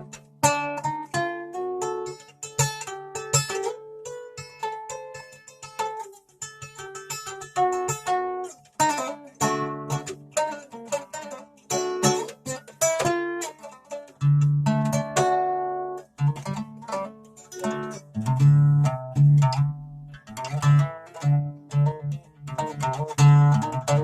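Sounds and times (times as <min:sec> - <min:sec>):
guitar picked notes and chords: 0:00.0 - 0:24.0.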